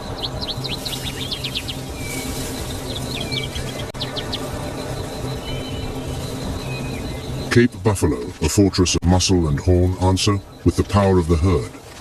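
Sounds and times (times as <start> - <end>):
birds chirping falling notes: 0.0 - 12.0
high insect drone: 0.0 - 12.0
low music bed: 0.0 - 12.0.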